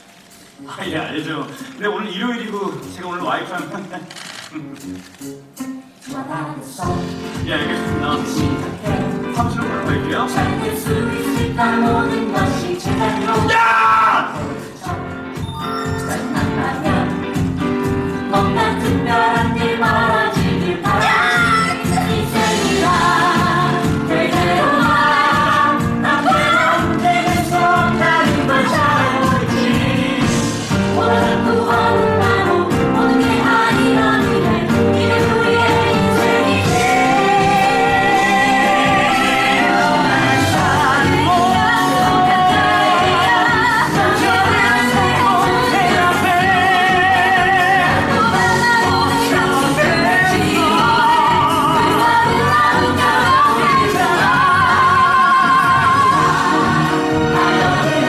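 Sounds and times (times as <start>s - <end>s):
group of voices singing: 6.0s - 58.0s
band accompaniment: 6.8s - 58.0s.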